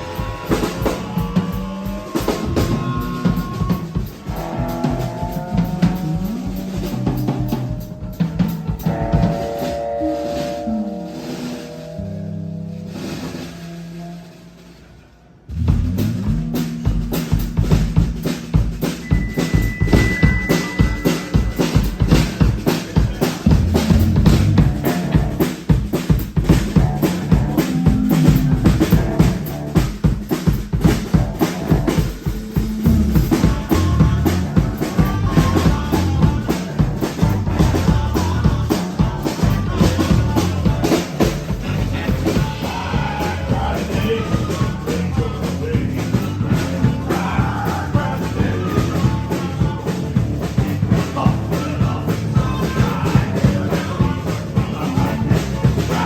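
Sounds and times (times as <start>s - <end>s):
drum kit beat: 0.0s - 14.5s, 15.4s - 56.0s
live rock band: 0.0s - 56.0s.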